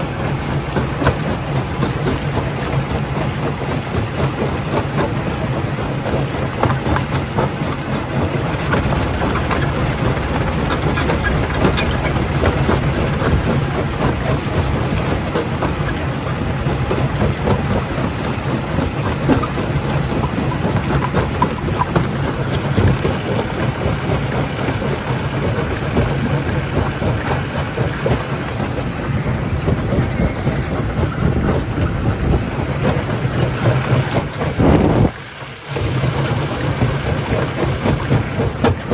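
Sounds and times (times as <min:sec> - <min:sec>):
low machine drone: 0:00.0 - 0:38.9.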